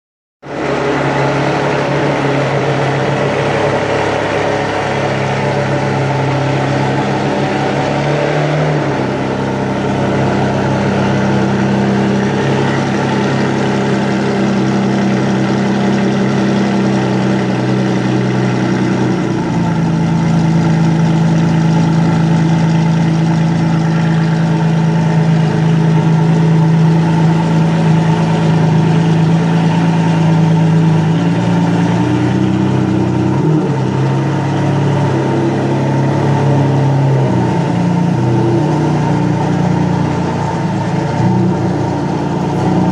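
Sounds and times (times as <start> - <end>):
car engine idling: 0.4 - 42.9.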